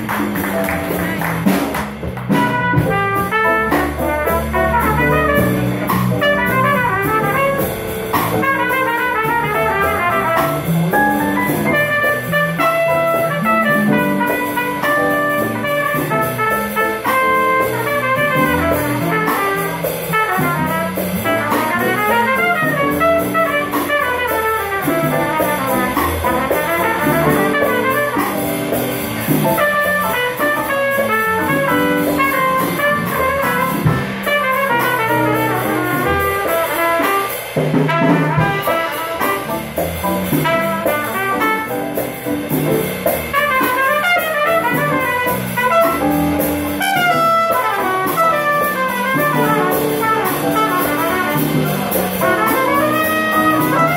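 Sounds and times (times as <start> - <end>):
electric bass: 0.0 - 36.7, 37.3 - 53.9
congas: 0.0 - 53.9
trumpet solo: 2.3 - 42.6, 43.2 - 53.9.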